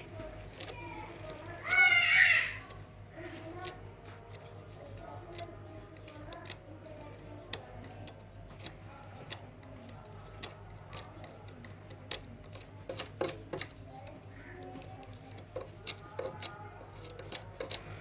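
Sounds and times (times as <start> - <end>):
metal comb clicking on fins: 3.5 - 18.0.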